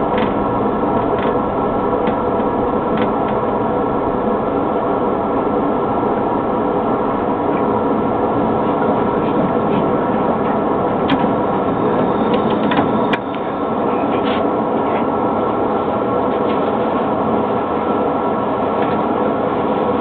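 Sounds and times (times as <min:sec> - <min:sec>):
tram cab running noise: 0:00.0 - 0:20.0.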